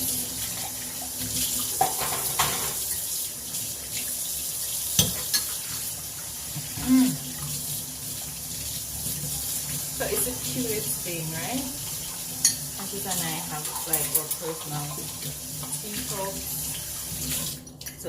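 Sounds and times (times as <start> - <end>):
tap water running into sink: 0.0 - 18.0.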